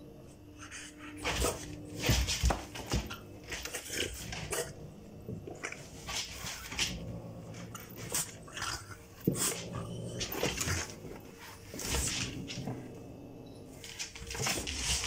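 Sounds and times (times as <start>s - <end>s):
animals scuffling: 1.1s - 15.0s.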